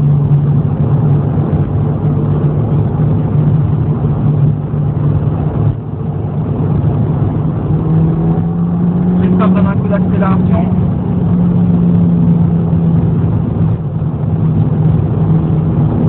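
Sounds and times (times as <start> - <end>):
car engine droning: 0.0 - 16.0
tyre and road noise: 0.0 - 16.0.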